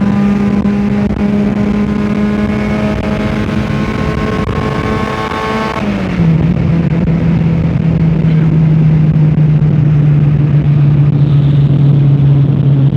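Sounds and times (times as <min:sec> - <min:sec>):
car engine off the throttle: 0:00.0 - 0:12.9
wind and road noise: 0:00.0 - 0:12.9.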